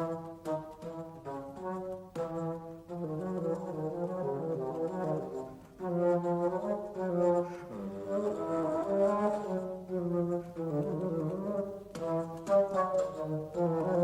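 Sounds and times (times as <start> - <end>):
brass music with held notes: 0.0 - 14.0.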